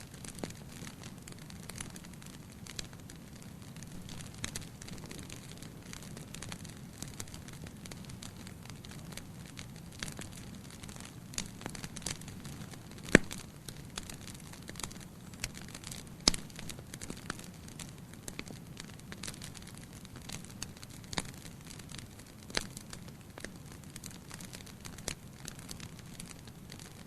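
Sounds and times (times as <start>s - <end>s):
bonfire crackling: 0.0s - 27.0s.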